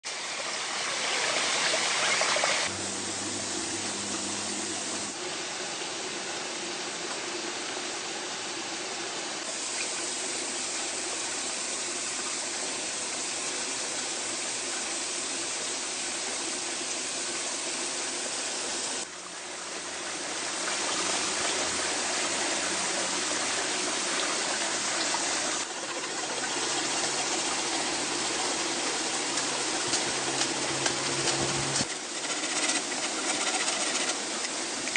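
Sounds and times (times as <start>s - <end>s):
stream and waterfall rushing: 0.1s - 34.9s.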